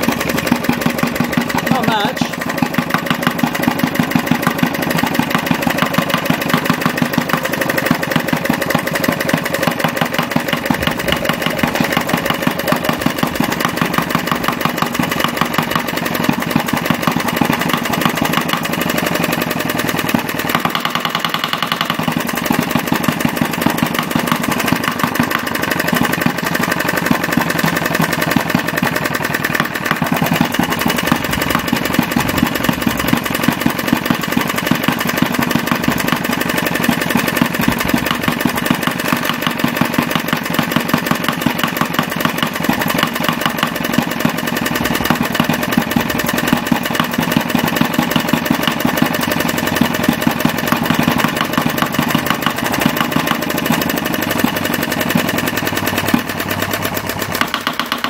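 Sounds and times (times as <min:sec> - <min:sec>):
small diesel engine running: 0:00.0 - 0:58.0.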